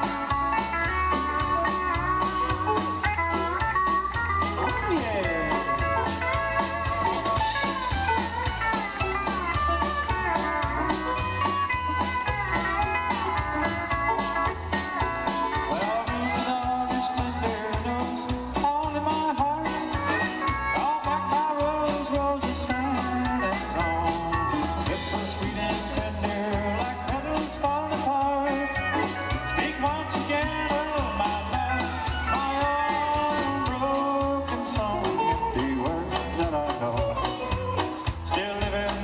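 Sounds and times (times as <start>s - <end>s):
country band playing: 0.0s - 39.0s
guitar lead with bending notes: 0.0s - 39.0s.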